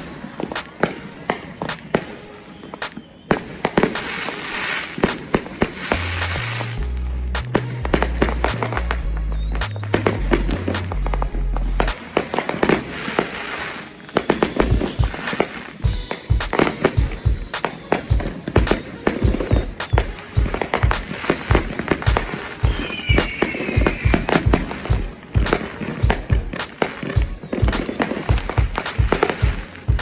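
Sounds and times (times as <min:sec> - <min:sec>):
fireworks and firecrackers banging: 0:00.0 - 0:06.4, 0:11.9 - 0:30.0.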